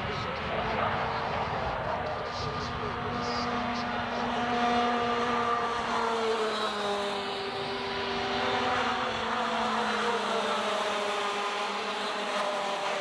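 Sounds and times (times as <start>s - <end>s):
kart engines revving: 0.0s - 13.0s.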